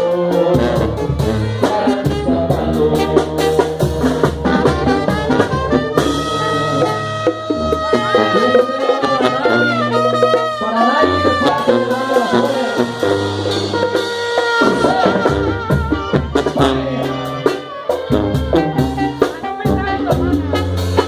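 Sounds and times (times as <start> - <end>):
drums: 0.0 - 21.0
low brass bass line: 0.0 - 21.0
trumpets and trombones melody: 0.0 - 21.0.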